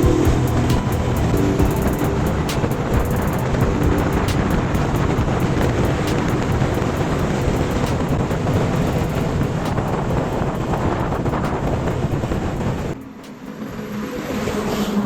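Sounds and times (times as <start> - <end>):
motorcycle engine hum: 0.0 - 13.9
wind rushing over microphone: 0.0 - 15.0.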